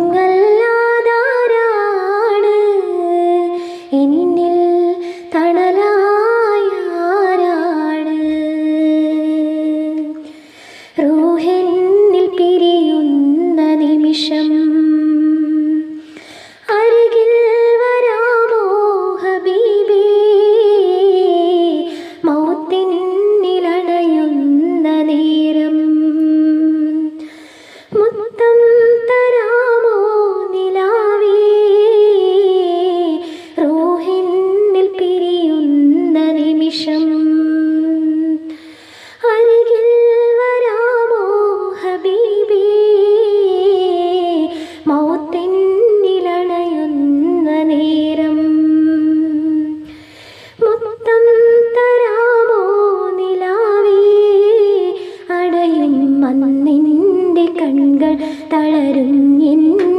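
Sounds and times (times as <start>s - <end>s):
woman singing unaccompanied: 0.0s - 10.3s, 11.0s - 27.3s, 27.9s - 38.6s, 39.2s - 59.9s.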